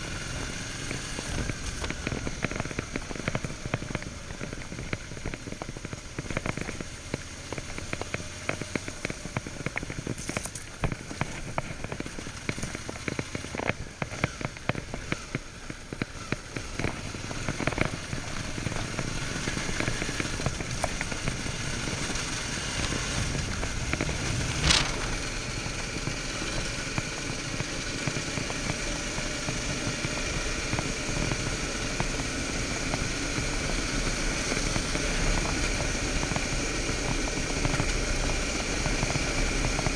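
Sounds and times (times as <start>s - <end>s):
motorcycle engine and riding noise: 0.0s - 39.9s
tyres crackling on gravel: 0.1s - 34.0s.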